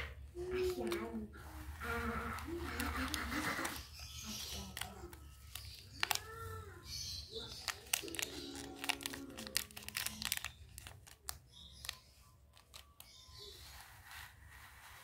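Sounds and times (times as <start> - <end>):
plastic wrappers crinkling: 0.6 - 15.0.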